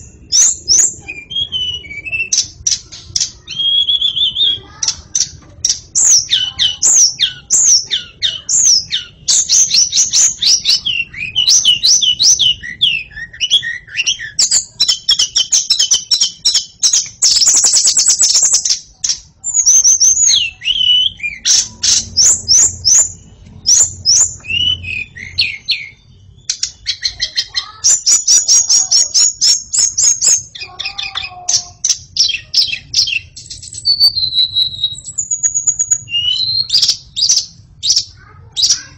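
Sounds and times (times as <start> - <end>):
bird singing whistled phrases: 0.0 - 38.9.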